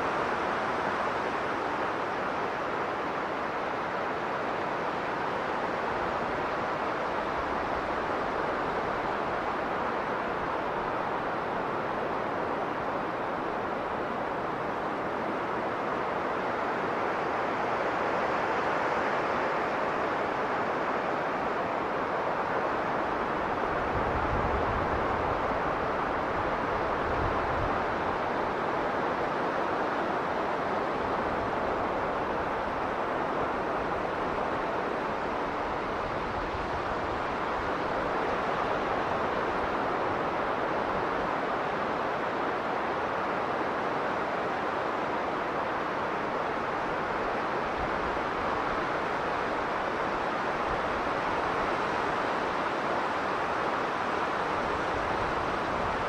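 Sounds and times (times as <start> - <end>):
strong blizzard wind: 0.0 - 56.0.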